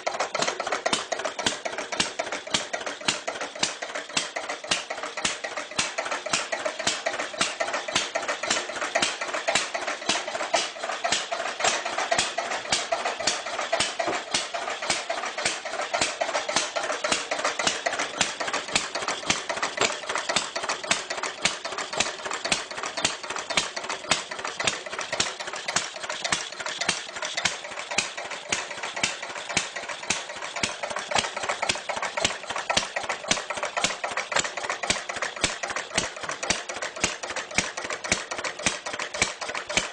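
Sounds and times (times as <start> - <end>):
old engine idling with clatter: 0.0 - 39.9.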